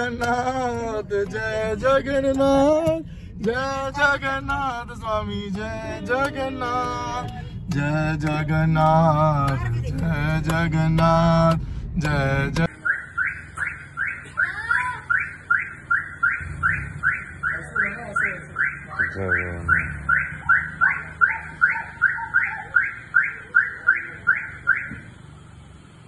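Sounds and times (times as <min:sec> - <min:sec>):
low engine hum: 0:00.0 - 0:23.5
car warning chirps: 0:00.0 - 0:25.4.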